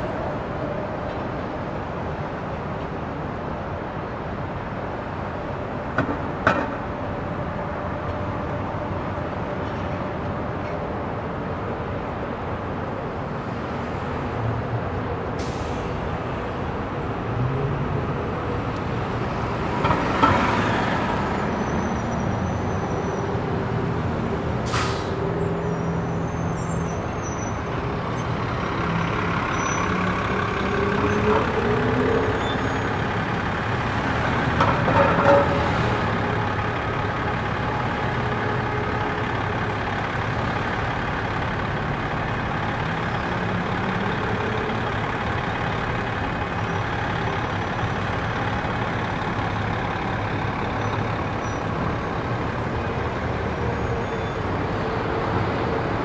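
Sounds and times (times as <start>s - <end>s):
heavy vehicle engine hum: 0.0s - 56.0s
passing vehicles rumbling: 0.0s - 56.0s.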